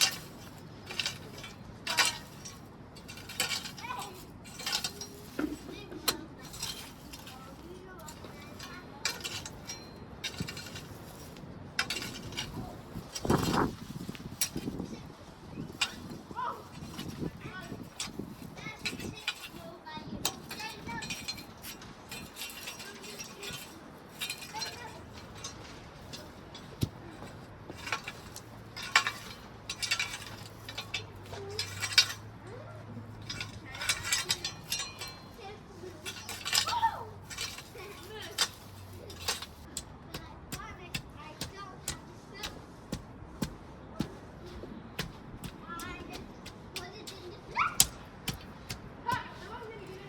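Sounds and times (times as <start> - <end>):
pavers clinking and knocking: 0.0 - 14.8, 15.7 - 32.3, 33.0 - 50.0.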